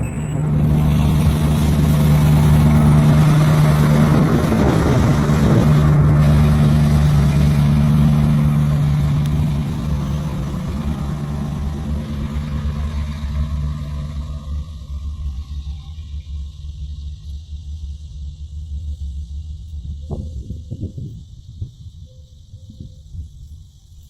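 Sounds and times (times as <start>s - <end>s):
diesel locomotive engine humming: 0.0s - 24.0s.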